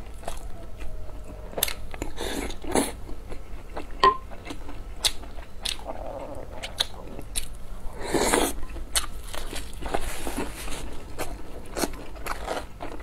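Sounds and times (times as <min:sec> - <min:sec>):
crunchy chewing and biting: 0:00.0 - 0:13.0.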